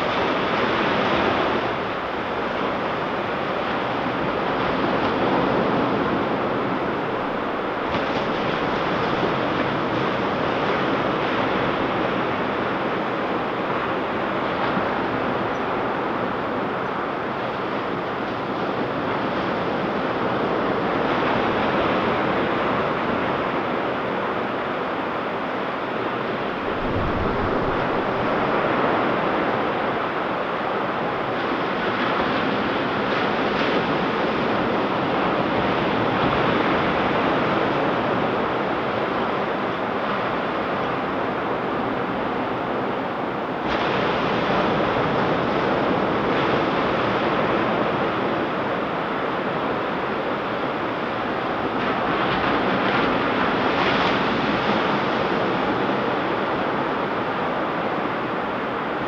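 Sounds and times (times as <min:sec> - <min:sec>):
waves washing up beach: 0:00.0 - 0:59.0
wind rumble on microphone: 0:00.0 - 0:59.0.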